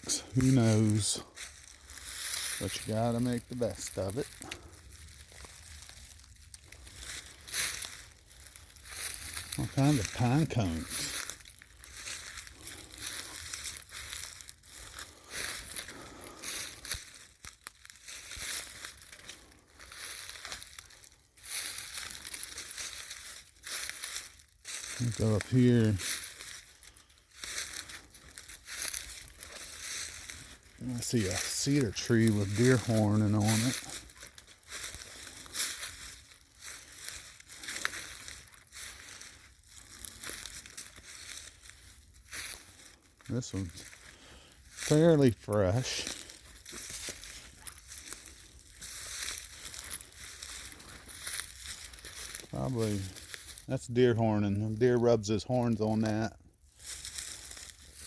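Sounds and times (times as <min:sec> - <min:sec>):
footsteps crunching through dry leaves: 0:00.0 - 0:58.0.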